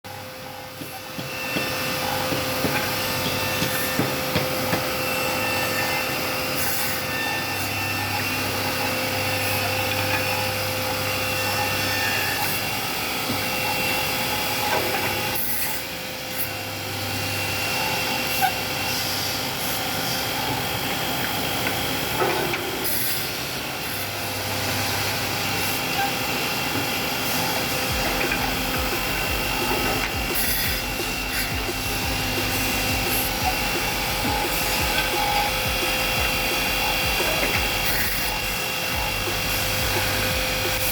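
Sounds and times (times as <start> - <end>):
machine motor whine: 0.1 - 40.9.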